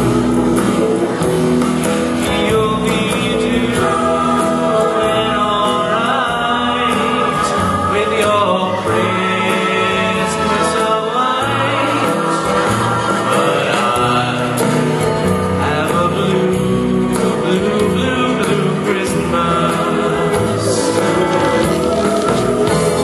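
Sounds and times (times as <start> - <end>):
slow song sung over band: 0.0 - 23.0.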